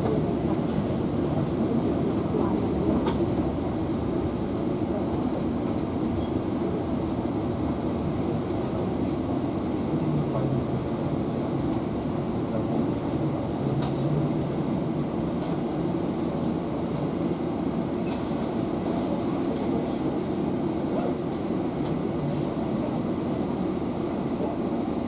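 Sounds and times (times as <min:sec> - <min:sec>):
train carriage rumble and hum: 0:00.0 - 0:25.0.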